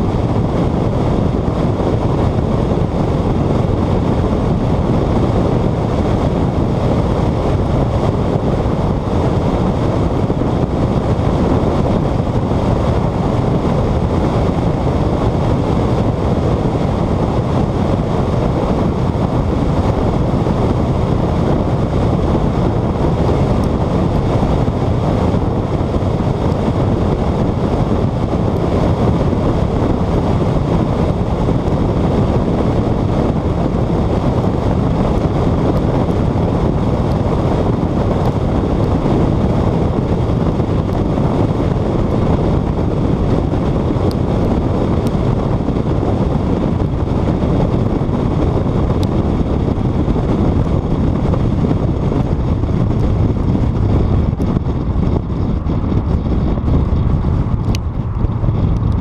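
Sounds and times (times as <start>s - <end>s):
car running and tyre noise: 0.0s - 59.0s
wind rushing over microphone: 0.0s - 59.0s.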